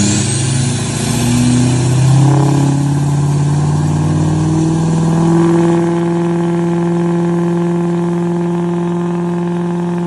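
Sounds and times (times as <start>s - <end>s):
diesel engine revving: 0.0s - 10.0s.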